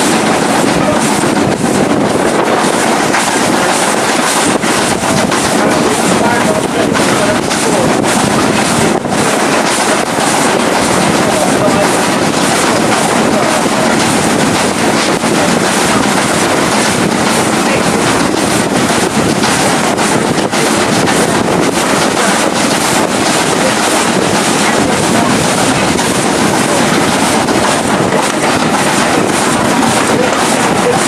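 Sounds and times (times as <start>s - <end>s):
train rushing at speed: 0.0s - 31.0s
wind buffeting microphone: 0.0s - 31.0s.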